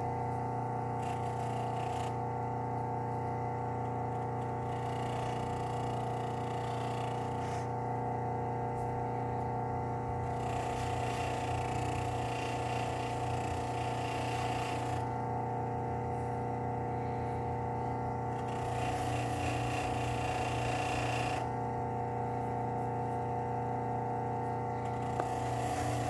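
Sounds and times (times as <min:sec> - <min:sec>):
electric buffer motor humming: 0:00.0 - 0:26.0.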